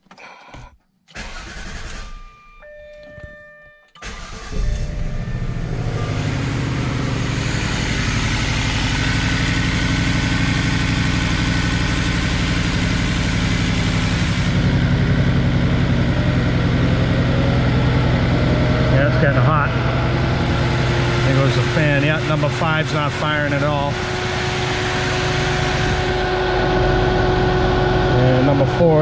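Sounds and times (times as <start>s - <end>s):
car engine idling with misfire: 1.2s - 2.3s, 4.0s - 29.0s.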